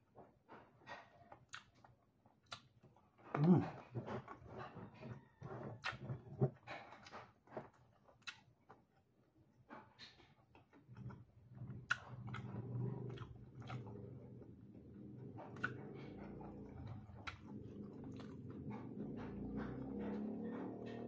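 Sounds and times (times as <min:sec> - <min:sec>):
person chewing with wet clicks: 0:00.9 - 0:04.5, 0:05.7 - 0:09.2, 0:09.8 - 0:21.0.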